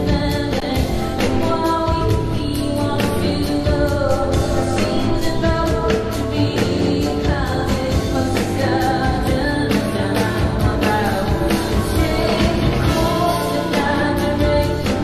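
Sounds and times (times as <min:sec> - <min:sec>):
rock band playing: 0:00.0 - 0:15.0
woman singing: 0:00.0 - 0:15.0.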